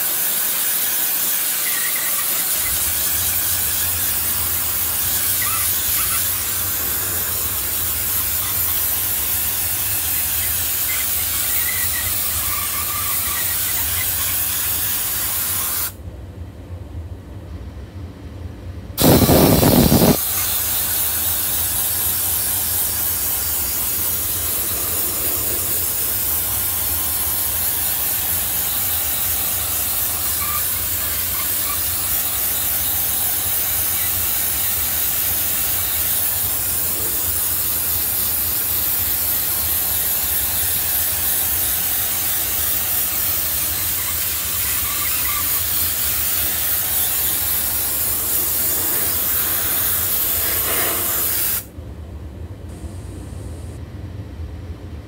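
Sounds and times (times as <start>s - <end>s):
steam cleaner jet hissing: 0.0s - 16.0s, 19.0s - 51.7s.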